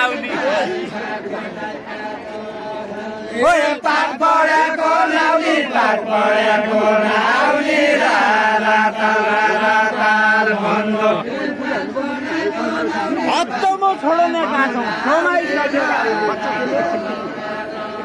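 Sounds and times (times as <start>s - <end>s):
folk singing with wavering notes: 0.0s - 18.0s.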